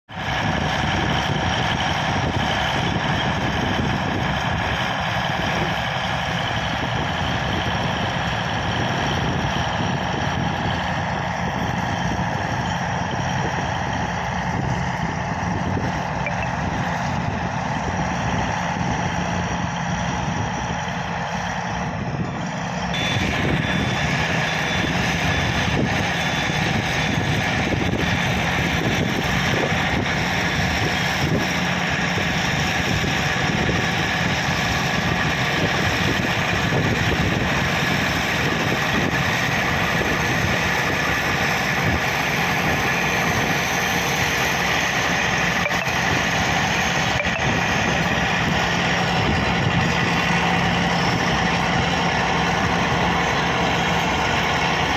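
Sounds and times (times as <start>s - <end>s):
bulldozer diesel engine running: 0.1s - 54.9s.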